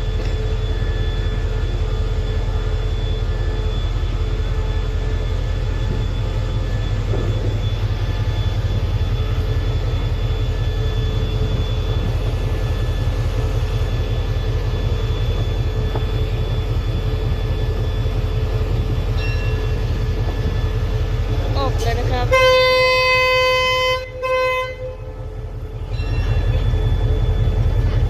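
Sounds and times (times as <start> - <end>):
locomotive engine idling: 0.0 - 28.0.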